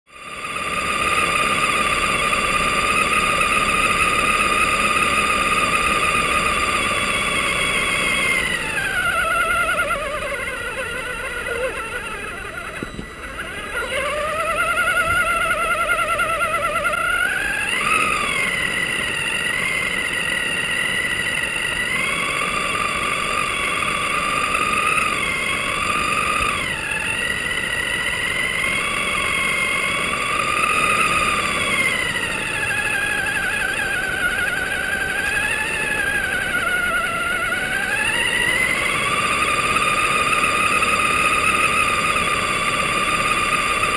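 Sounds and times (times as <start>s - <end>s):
rc car motor whining: 0.1s - 43.9s.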